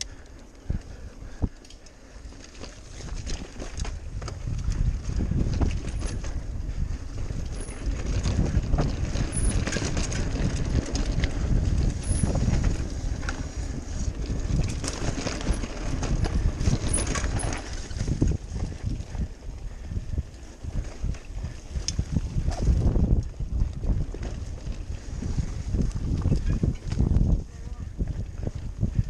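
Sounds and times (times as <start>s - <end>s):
bike frame rattling and clicking: 0.0s - 29.0s
bike tyres rumbling on dirt: 0.0s - 29.0s
wind on microphone: 2.6s - 29.0s.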